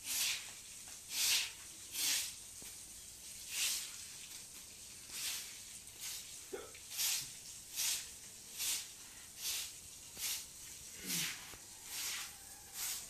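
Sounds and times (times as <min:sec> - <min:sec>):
broom sweeping wet concrete: 0:00.0 - 0:13.0.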